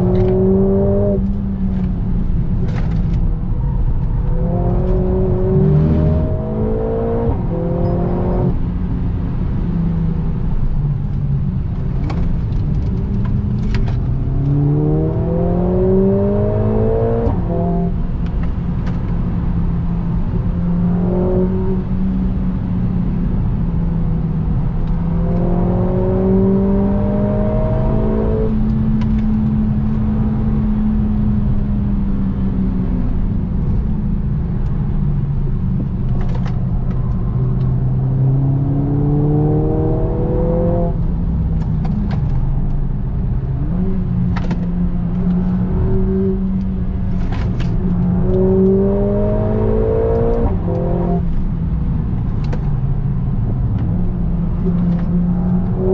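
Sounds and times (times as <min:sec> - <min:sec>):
car engine accelerating: 0:00.0 - 0:55.9
tyre and road noise: 0:00.0 - 0:55.9.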